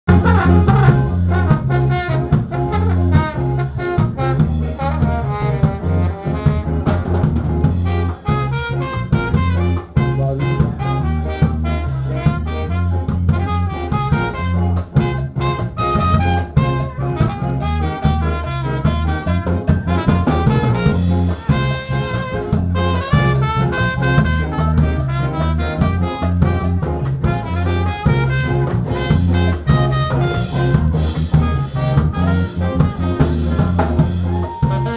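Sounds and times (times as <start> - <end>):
bass line: 0.0 - 34.9
drums: 0.0 - 34.9
ska horn section playing: 0.1 - 34.9.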